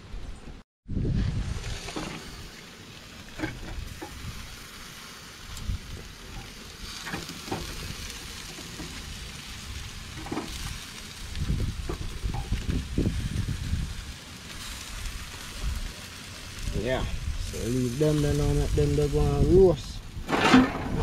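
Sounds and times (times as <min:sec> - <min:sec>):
chicken sizzling on grill: 0:01.2 - 0:20.3.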